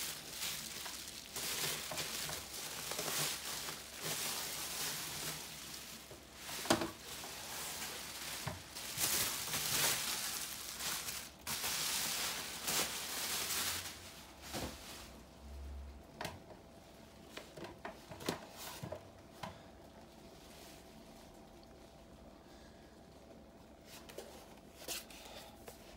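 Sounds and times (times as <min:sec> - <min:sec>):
bubble wrap rustling and crinkling: 0:00.0 - 0:19.0, 0:19.8 - 0:25.1.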